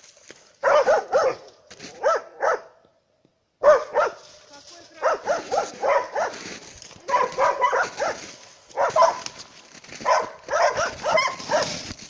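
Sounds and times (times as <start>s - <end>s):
dog barking: 0.6s - 2.8s, 3.6s - 11.9s.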